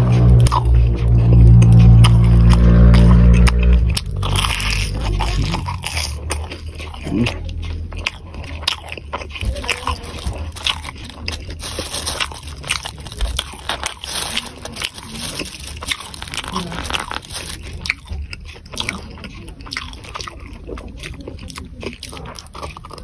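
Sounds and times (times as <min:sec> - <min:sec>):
chewing and biting food: 0:00.0 - 0:23.0.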